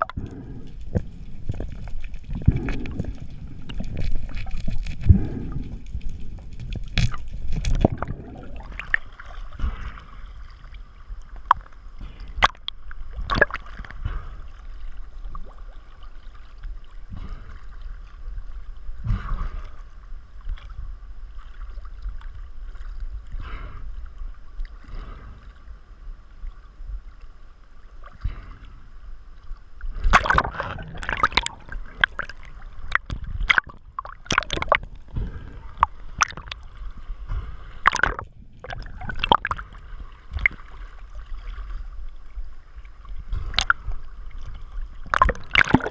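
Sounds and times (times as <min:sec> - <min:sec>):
water splashing: 0:00.0 - 0:23.1, 0:29.8 - 0:45.9
low rumble: 0:00.0 - 0:45.9
water sloshing and gurgling: 0:00.0 - 0:45.9.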